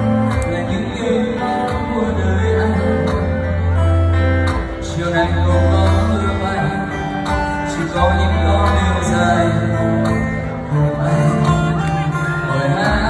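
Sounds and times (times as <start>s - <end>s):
concert music over loudspeakers: 0.0s - 13.0s.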